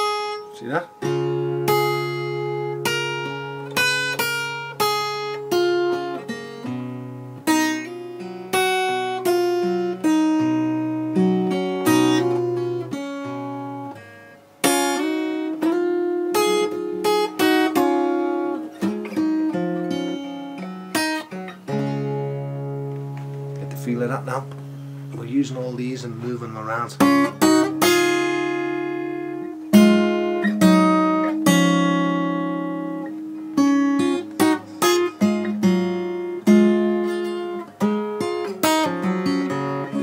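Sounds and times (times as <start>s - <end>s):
acoustic guitar fingerpicking: 0.0s - 40.0s.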